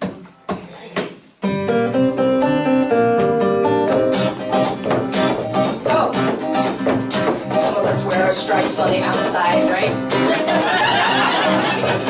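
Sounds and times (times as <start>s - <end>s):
acoustic guitar strumming chords: 1.4s - 12.0s.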